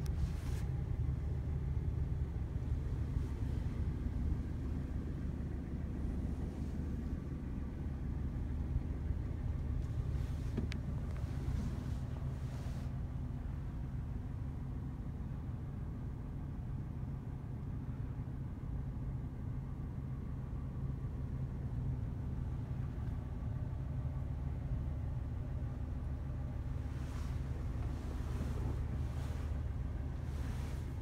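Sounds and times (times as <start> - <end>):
van engine rumble: 0.0 - 31.0.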